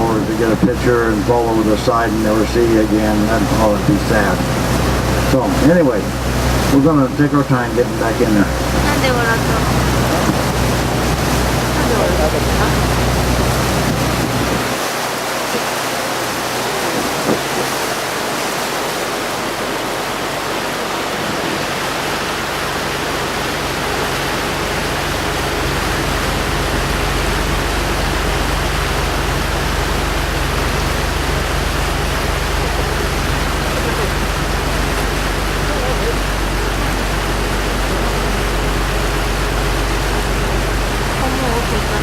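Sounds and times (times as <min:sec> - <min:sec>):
boat engine rumble: 0:00.0 - 0:42.0
wind and water rushing: 0:00.0 - 0:42.0.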